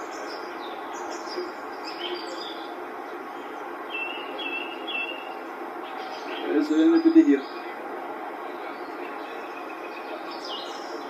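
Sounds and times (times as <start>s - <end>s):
background hiss: 0.0s - 11.0s
birds chirping: 0.0s - 11.0s.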